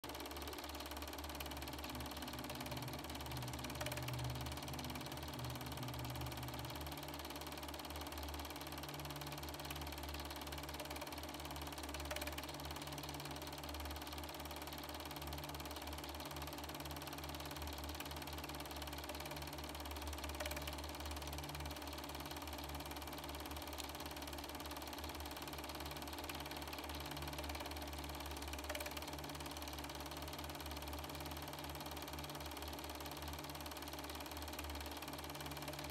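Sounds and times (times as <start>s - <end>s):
film projector whirring and clattering: 0.0s - 35.9s.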